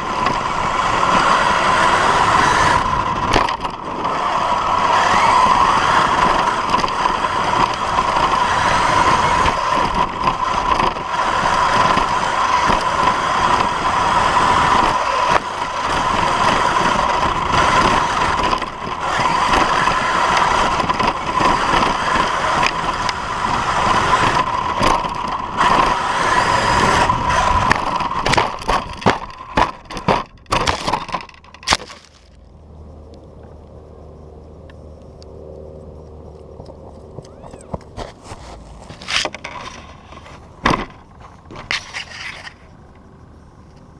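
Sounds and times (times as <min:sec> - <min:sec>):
chassis rattling and crunching: 0:00.0 - 0:32.6, 0:36.8 - 0:42.6
rc car motor whine: 0:00.0 - 0:43.9.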